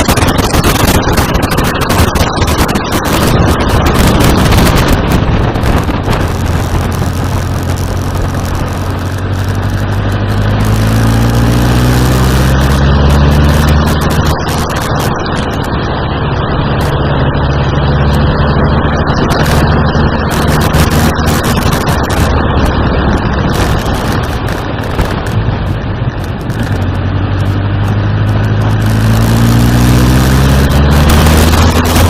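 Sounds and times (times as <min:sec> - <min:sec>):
motorcycle engine running: 0:00.0 - 0:32.0
steady rushing noise: 0:00.0 - 0:32.0.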